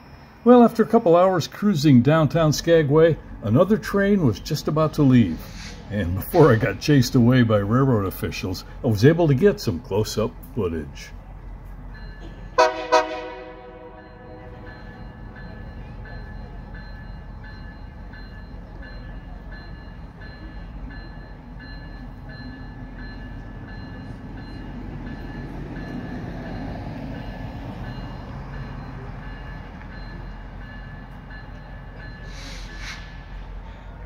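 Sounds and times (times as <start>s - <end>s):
diesel train engine rumble: 0.0s - 34.0s
train bell ringing: 0.0s - 34.0s.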